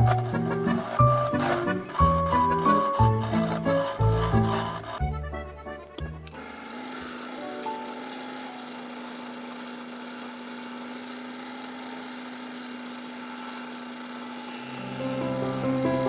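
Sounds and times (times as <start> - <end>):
wood lathe running: 0.0 - 16.0.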